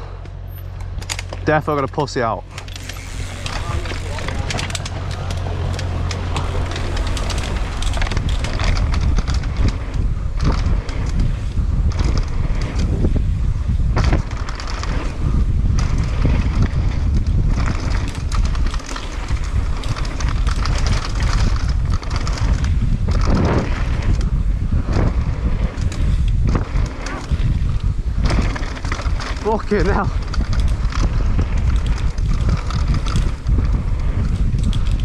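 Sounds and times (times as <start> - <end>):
bike rattling over bumps: 0.0 - 35.0
wind buffeting microphone: 0.0 - 35.0.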